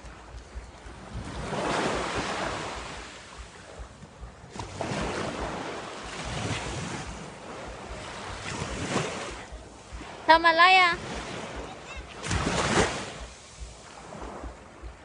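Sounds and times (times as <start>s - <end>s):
sea waves washing onto shore: 0.0s - 15.0s
wind buffeting microphone: 0.0s - 15.0s.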